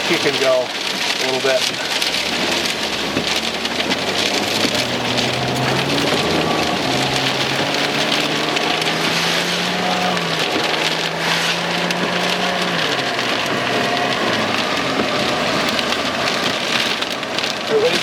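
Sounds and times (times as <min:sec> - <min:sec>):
car engine running: 0:00.0 - 0:18.0
rain on car roof: 0:00.0 - 0:18.0.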